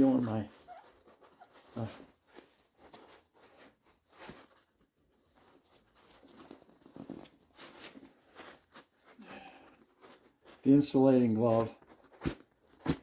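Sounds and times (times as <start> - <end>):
glove rustling and rubbing: 0.0 - 13.0.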